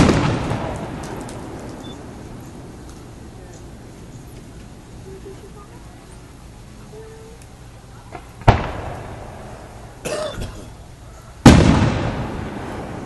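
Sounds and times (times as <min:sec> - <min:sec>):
fireworks booming: 0:00.0 - 0:05.8, 0:08.0 - 0:13.0.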